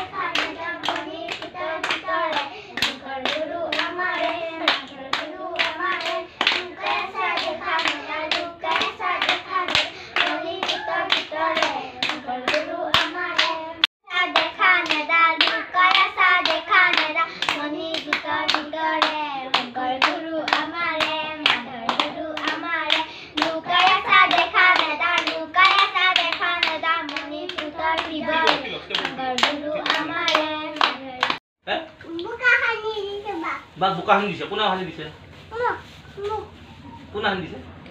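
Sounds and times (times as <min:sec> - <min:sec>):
girls singing together: 0:00.0 - 0:31.4
hands clapping rhythmically: 0:00.0 - 0:31.4.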